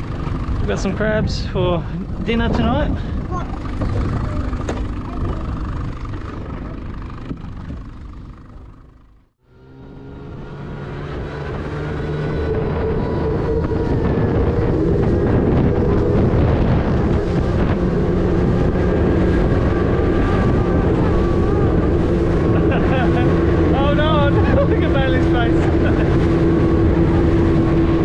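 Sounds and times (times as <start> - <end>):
wind on microphone: 0.0 - 8.8, 10.1 - 28.0
outboard motor running: 0.0 - 28.0.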